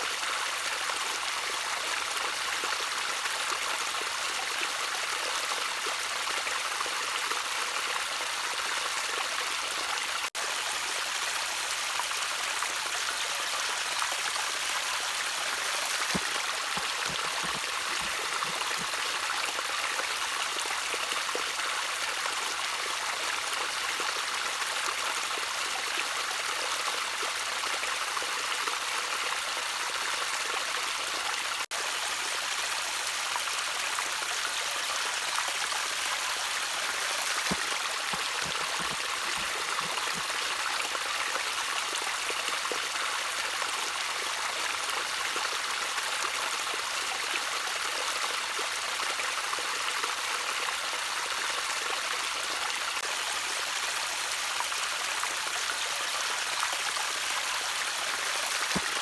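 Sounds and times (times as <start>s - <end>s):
water trickling over stones: 0.0s - 27.7s, 28.8s - 49.3s, 52.5s - 59.0s.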